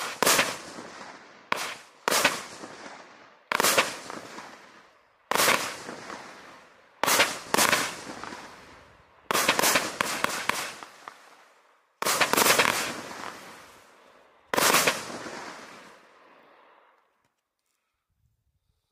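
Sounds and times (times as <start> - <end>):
firework cake bursts: 0.0 - 16.4
crackling firework stars: 0.0 - 18.0.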